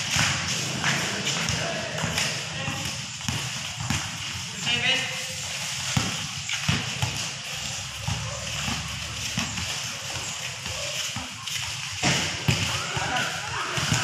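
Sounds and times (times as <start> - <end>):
players' footsteps: 0.0 - 14.0
faint voices: 0.4 - 14.0
basketball bouncing on concrete: 1.4 - 4.8, 5.7 - 14.0.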